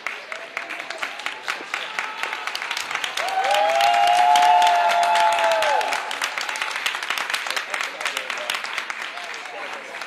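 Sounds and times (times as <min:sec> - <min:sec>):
audience applauding: 0:00.0 - 0:10.0
people cheering: 0:00.0 - 0:10.0.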